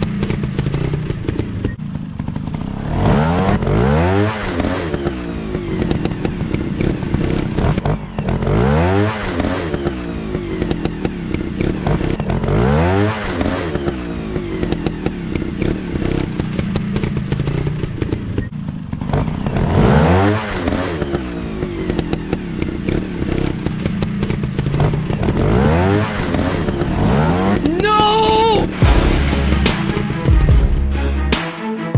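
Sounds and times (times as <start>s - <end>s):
dirt bike engines revving: 0.0s - 31.4s.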